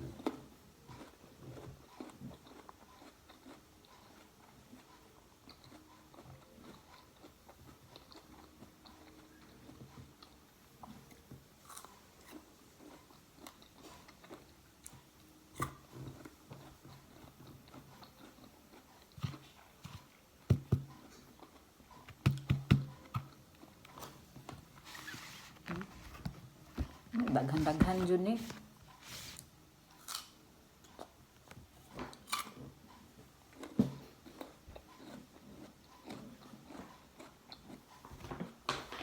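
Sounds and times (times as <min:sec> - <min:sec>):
chewing crisp fruit: 0:00.0 - 0:38.6.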